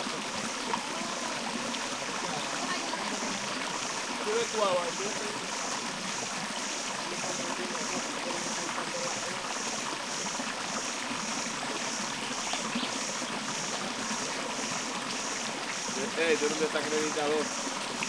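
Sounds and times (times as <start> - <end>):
flowing water: 0.0 - 18.0.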